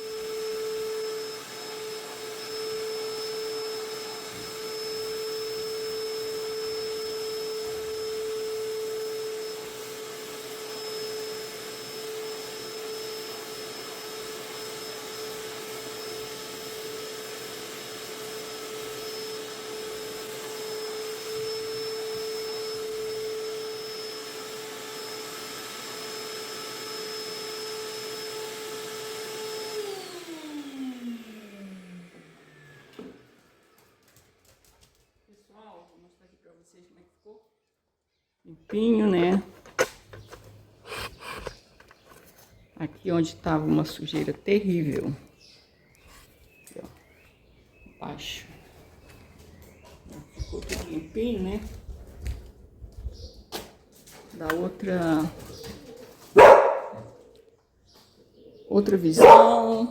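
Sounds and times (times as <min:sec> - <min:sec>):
vacuum cleaner running: 0:00.0 - 0:34.8, 0:38.7 - 0:52.5, 0:54.2 - 0:57.3, 0:58.8 - 0:59.9.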